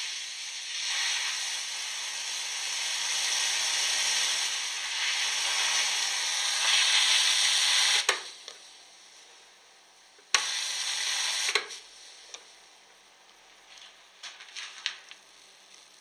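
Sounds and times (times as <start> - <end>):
electric arc hissing: 0.0 - 9.2, 10.2 - 12.5, 13.5 - 16.0.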